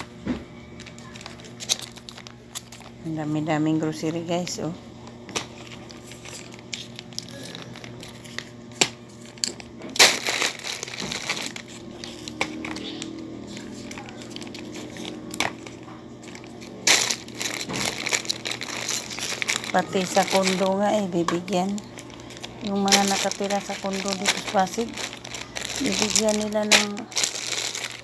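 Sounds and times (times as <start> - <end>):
plastic packaging crinkling: 0.8 - 3.4, 5.3 - 28.0.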